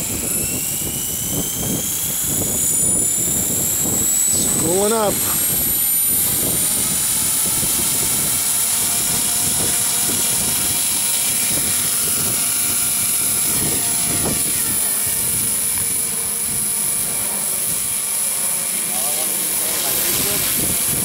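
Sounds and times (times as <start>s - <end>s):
wind buffeting microphone: 0.0s - 18.0s, 19.8s - 21.0s
model helicopter motor whine: 0.0s - 21.0s.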